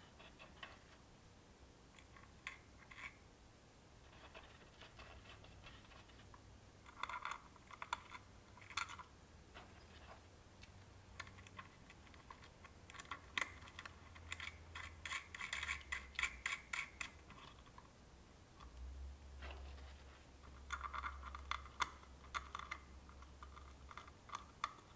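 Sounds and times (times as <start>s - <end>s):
small metallic clicks and scratches: 0.0s - 1.0s, 1.9s - 3.2s, 4.0s - 17.9s, 19.4s - 24.9s.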